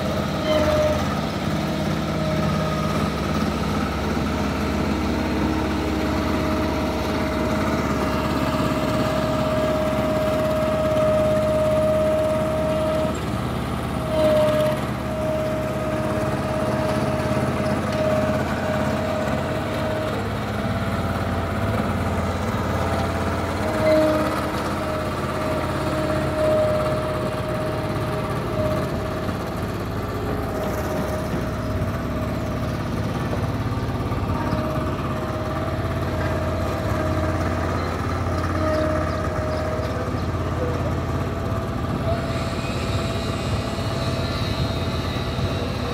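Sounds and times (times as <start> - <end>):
constant whine: 0.0 - 45.9
roller engine running: 0.0 - 45.9.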